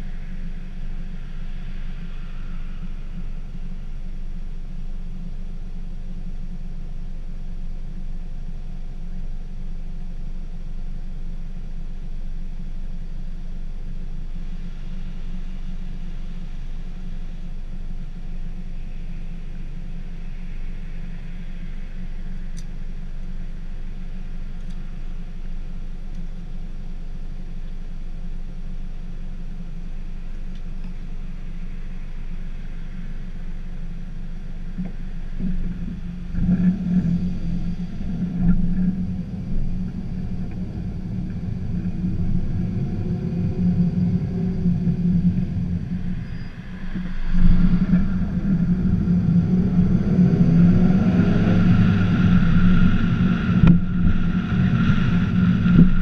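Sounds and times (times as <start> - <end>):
car engine idling and accelerating: 0.0 - 56.0.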